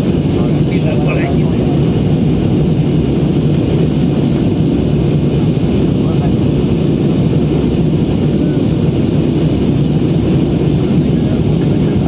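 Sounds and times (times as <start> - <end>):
aeroplane cabin engine rumble: 0.0 - 12.0.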